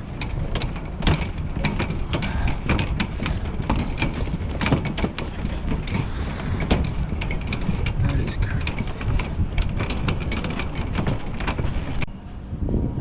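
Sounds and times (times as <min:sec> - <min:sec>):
city traffic: 0:00.0 - 0:12.9
wind rumble: 0:00.0 - 0:13.0.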